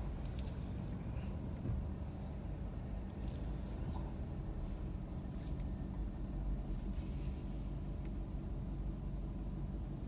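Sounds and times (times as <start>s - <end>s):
car engine rumble: 0.0s - 10.0s
surrounding traffic noise: 0.0s - 10.0s.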